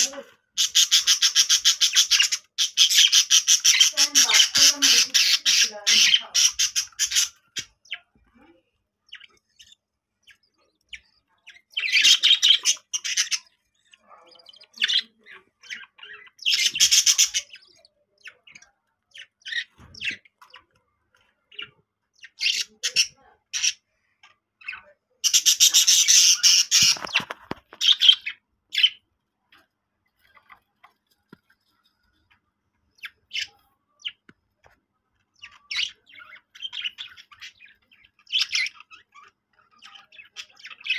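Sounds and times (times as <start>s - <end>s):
bird chicks squawking: 0.0s - 40.9s.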